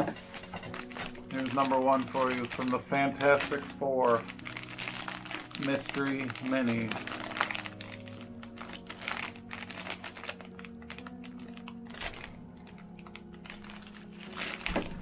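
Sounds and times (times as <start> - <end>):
packaging crinkling and clicking: 0.0 - 15.0
packaging rustle: 0.0 - 15.0
soft background music: 0.0 - 15.0.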